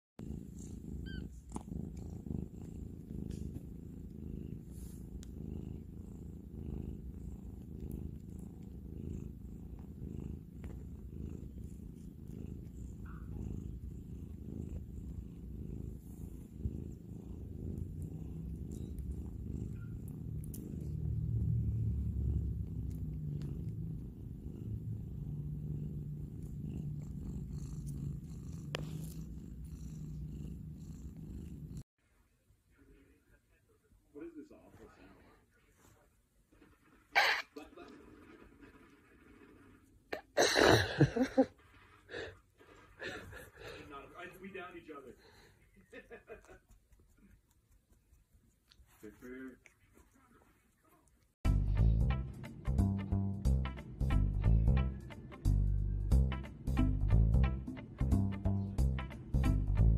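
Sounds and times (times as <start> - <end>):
cat purring: 0.2 - 31.9, 32.7 - 59.9.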